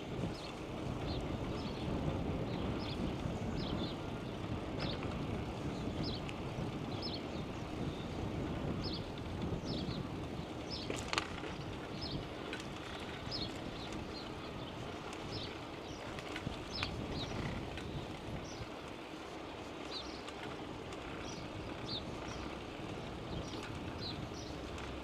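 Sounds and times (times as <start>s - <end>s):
bicycle rolling noise: 0.0s - 25.0s
wind noise: 0.0s - 25.0s.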